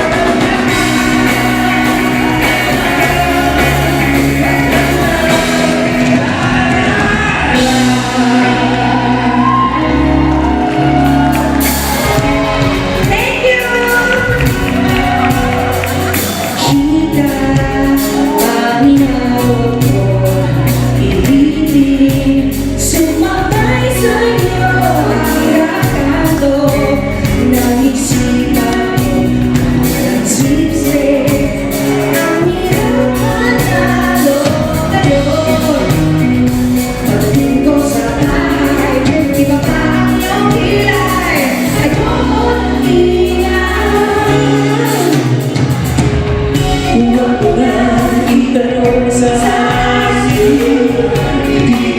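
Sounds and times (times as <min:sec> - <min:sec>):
woman singing: 0:00.0 - 0:15.8, 0:16.5 - 0:51.9
backing vocals: 0:00.0 - 0:46.0, 0:46.6 - 0:51.9
band playing pop music: 0:00.0 - 0:51.9.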